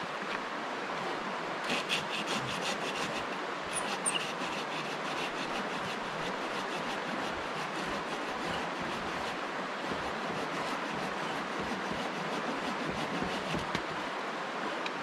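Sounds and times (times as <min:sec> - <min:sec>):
river water rushing: 0:00.0 - 0:15.0
scraping strokes: 0:01.7 - 0:13.9.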